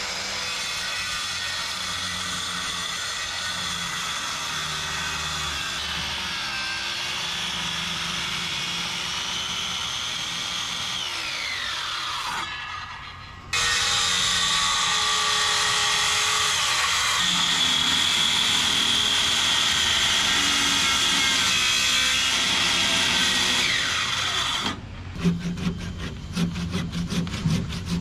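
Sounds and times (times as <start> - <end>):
circular saw cutting wood: 0.0 - 28.0
handsaw cutting wood: 0.0 - 28.0.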